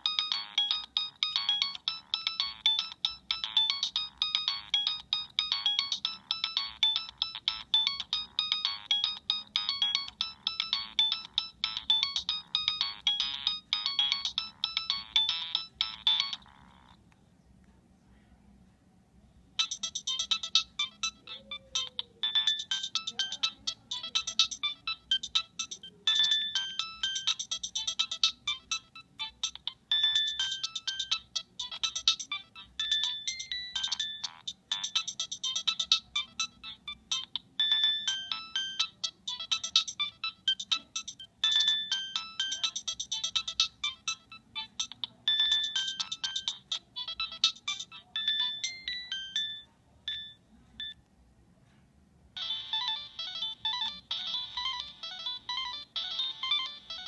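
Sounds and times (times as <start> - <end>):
mobile phone ringtone melody: 0.0 - 17.0, 19.6 - 51.0, 52.3 - 57.0.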